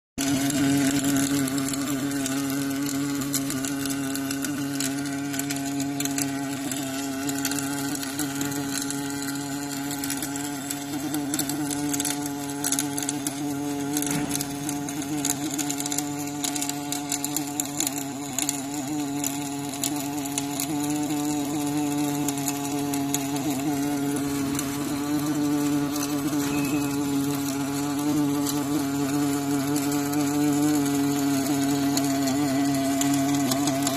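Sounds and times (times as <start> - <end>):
welding arc buzzing hum: 0.2 - 33.9
welding crackles: 0.2 - 33.9.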